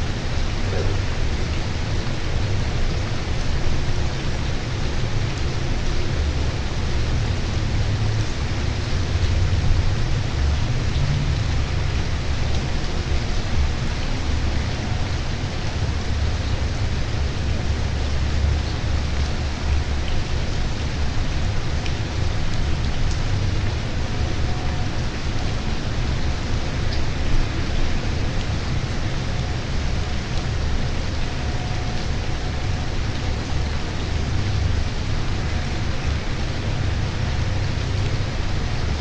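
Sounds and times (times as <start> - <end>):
steady rain falling: 0.0 - 39.0
unsteady low rumble: 0.0 - 39.0.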